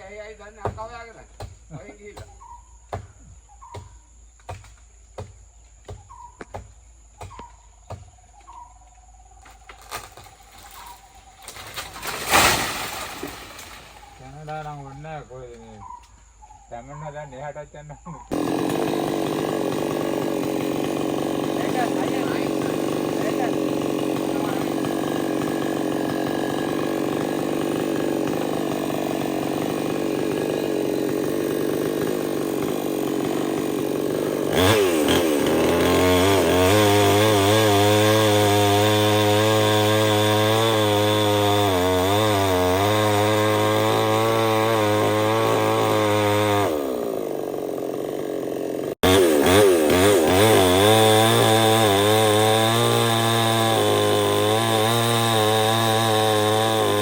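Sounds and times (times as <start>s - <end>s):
chainsaw cutting wood: 0.5s - 8.2s, 9.4s - 15.0s, 18.3s - 57.0s.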